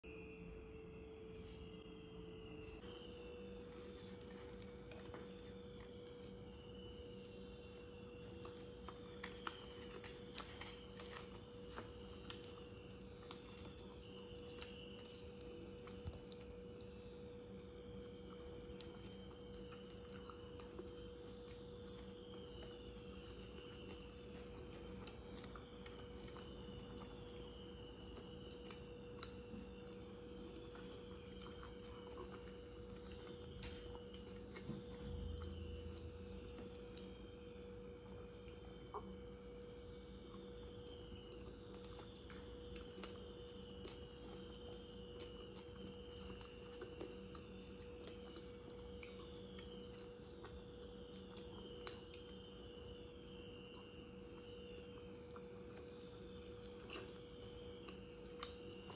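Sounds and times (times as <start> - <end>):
faint steady hum: 0.0 - 58.9
chewing clicks: 4.4 - 58.9.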